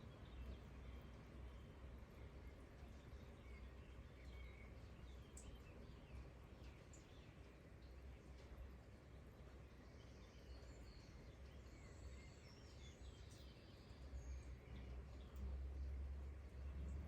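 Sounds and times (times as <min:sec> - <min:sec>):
low rumble with soft hiss: 0:00.0 - 0:17.0.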